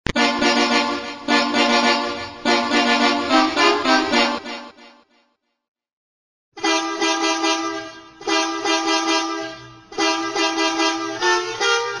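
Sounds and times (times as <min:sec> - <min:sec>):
musical bus horn blasts: 0:00.1 - 0:05.0, 0:06.6 - 0:12.0.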